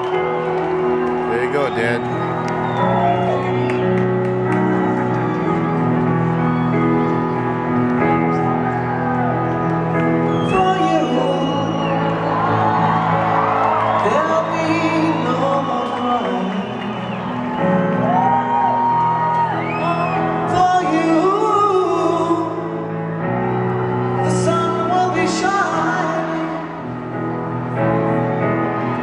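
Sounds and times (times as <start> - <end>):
crowd whooping and shouting: 0.0 - 22.4, 23.1 - 26.4
live piano ballad: 0.0 - 29.0.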